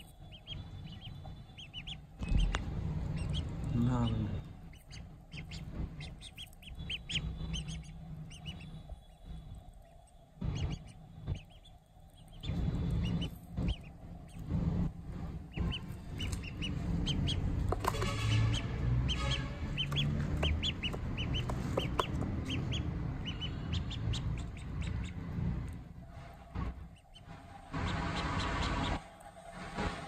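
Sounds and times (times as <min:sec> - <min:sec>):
duckling peeping: 0:00.0 - 0:25.8, 0:26.6 - 0:29.1
low rumble: 0:00.0 - 0:30.0.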